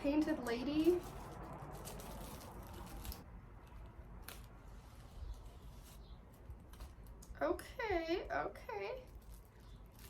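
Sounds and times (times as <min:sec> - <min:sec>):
plastic wrap rustling and tearing: 0:00.0 - 0:07.4, 0:08.9 - 0:10.0.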